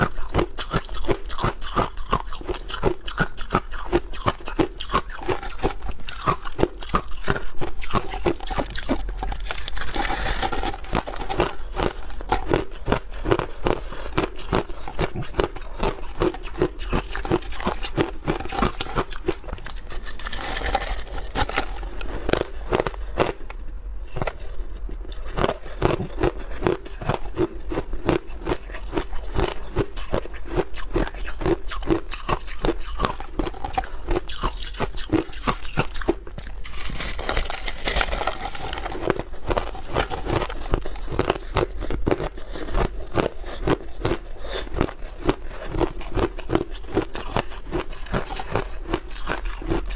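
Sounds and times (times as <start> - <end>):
person chewing ice crunching: 0.0 - 49.9.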